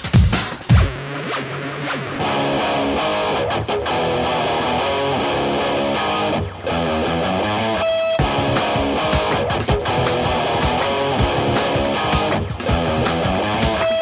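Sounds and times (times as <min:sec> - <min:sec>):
guitar band music: 0:00.0 - 0:14.0.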